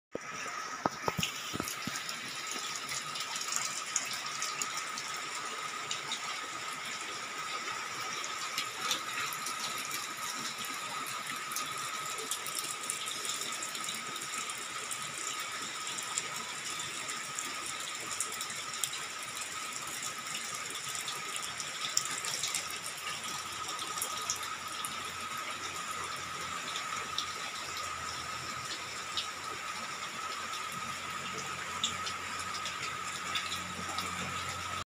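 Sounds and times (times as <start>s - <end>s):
rain drops ticking: 0.1s - 34.8s.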